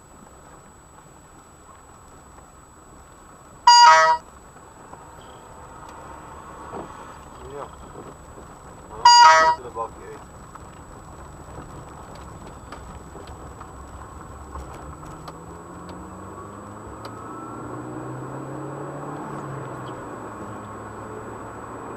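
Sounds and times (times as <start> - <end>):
tyre and road noise: 0.0 - 21.9
car engine accelerating: 3.3 - 21.9.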